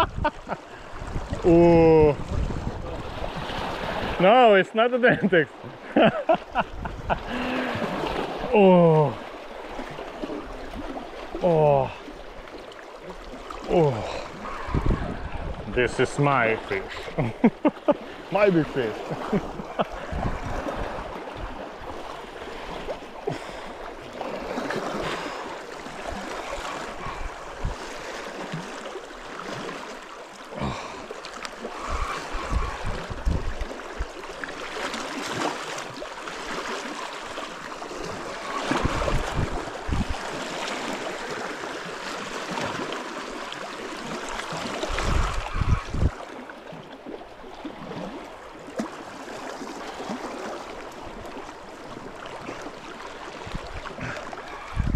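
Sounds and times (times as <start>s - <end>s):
sea water splashing on rocks: 9.2s - 54.9s.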